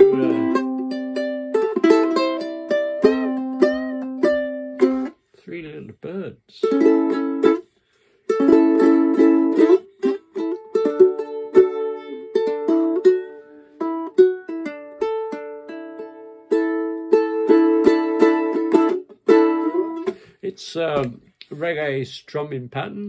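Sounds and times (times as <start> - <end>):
ukulele strumming: 0.0 - 5.2, 6.6 - 20.2.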